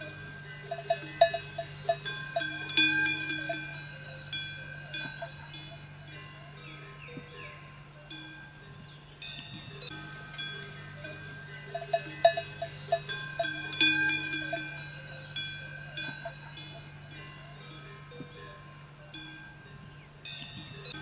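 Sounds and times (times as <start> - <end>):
metal bells clanking: 0.0 - 21.0
steady low hum: 0.0 - 21.0.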